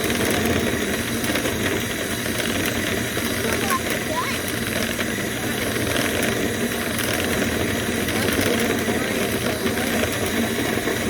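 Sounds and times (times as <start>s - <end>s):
motor running: 0.0s - 11.0s.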